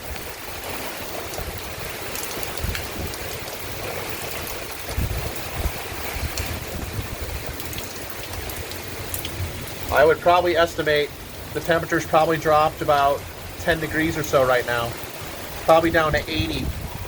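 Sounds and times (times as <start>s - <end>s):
heavy downpour: 0.0s - 17.0s
wind buffeting microphone: 0.0s - 17.0s.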